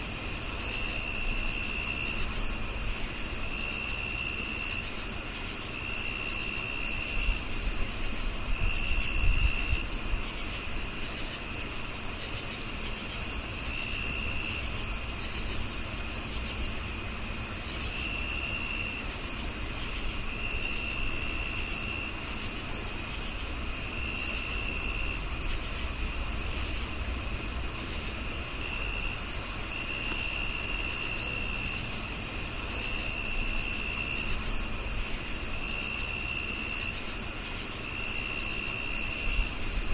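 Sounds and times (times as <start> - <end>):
lower cricket trill bursts: 0.0 - 39.9
rapid cricket chirping: 0.0 - 39.9.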